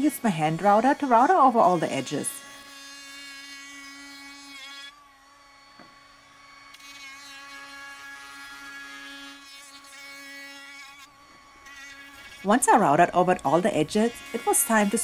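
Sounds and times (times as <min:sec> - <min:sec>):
router whining while cutting wood: 0:00.0 - 0:15.0.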